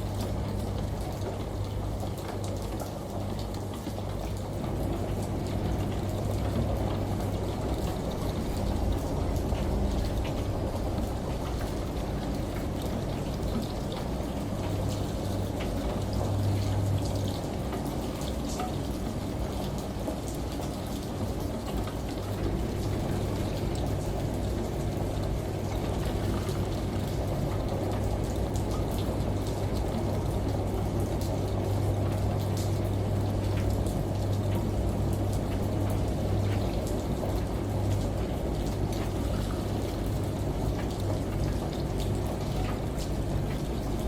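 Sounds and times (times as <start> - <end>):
falling water: 0.0 - 44.0
washing machine hum: 0.0 - 44.0.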